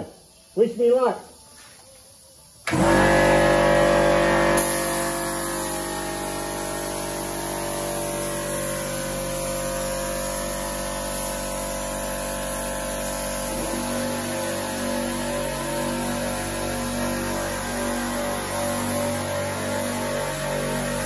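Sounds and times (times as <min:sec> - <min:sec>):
spray gun hissing: 0:00.0 - 0:21.0.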